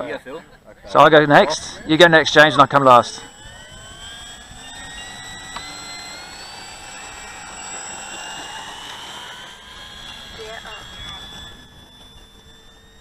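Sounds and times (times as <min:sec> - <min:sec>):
model plane electric motors whining: 0:00.6 - 0:13.0.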